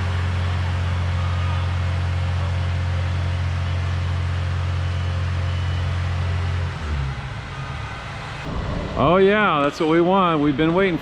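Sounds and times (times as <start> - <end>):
large engine humming: 0.0 - 11.0.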